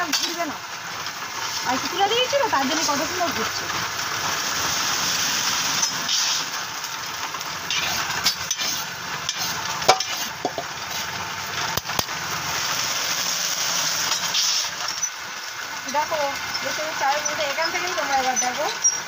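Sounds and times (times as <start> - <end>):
motor-driven stirring rod: 0.0 - 19.0
rice grains roasting in a pan: 0.0 - 19.0.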